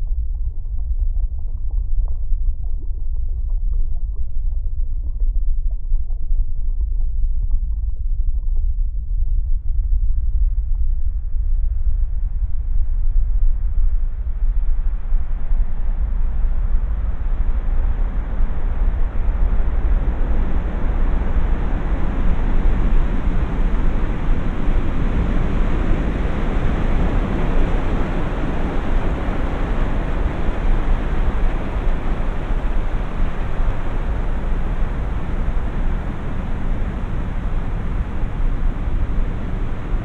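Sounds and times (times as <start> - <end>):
low rumbling noise: 0.0 - 40.0.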